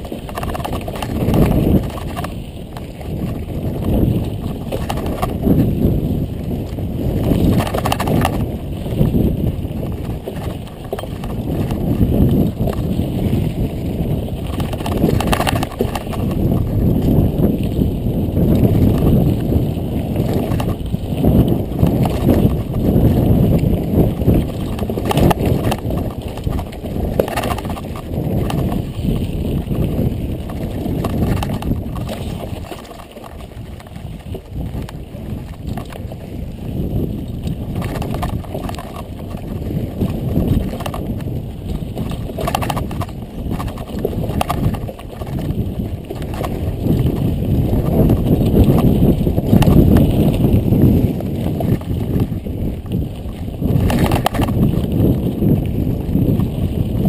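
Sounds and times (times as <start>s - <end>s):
bike rattling over bumps: 0.0s - 57.0s
bike tyres crunching on dirt: 0.0s - 57.0s.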